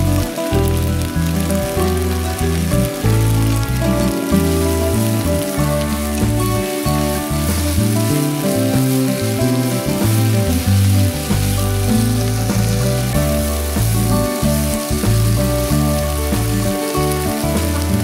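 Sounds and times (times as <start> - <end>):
background music: 0.0 - 18.0
food sizzling in frying pan: 0.0 - 18.0.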